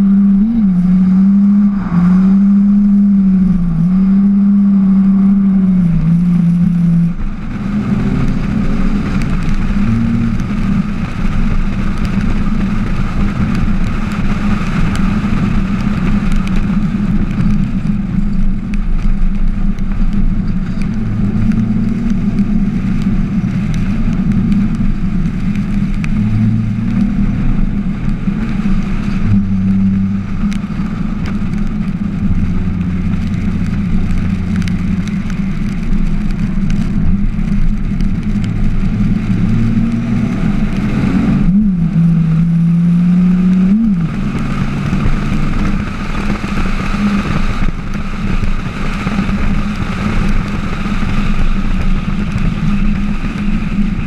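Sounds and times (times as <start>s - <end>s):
car engine revving under load: 0.0s - 54.0s.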